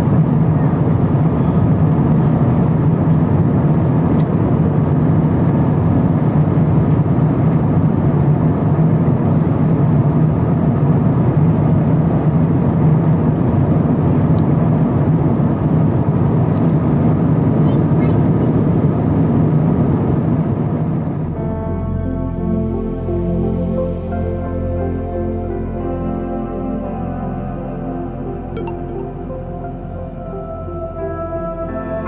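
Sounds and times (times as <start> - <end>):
vehicle running rumble: 0.0 - 31.6.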